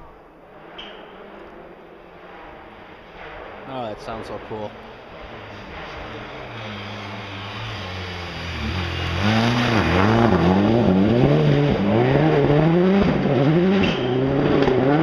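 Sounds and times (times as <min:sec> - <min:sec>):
rally car engine revving: 0:00.6 - 0:15.0.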